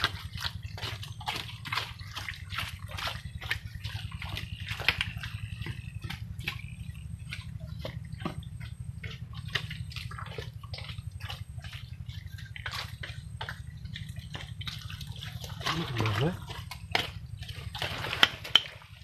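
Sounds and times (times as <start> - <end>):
mud squelching: 0.0 - 19.0.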